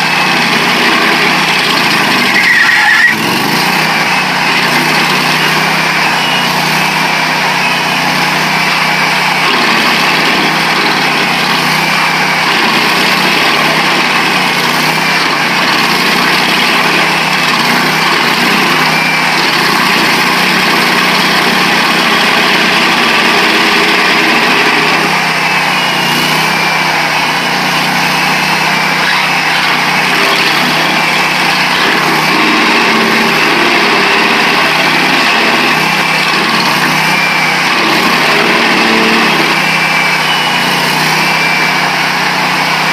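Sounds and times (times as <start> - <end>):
cutter wheel grinding stump: 0.0 - 42.9
gas engine running hard: 0.0 - 42.9.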